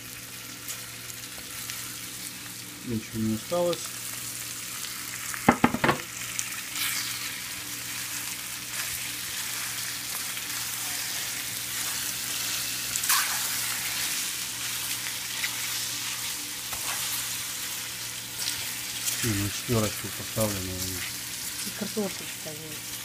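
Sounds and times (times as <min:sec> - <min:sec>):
mushrooms sizzling in frying pan: 0:00.0 - 0:23.0.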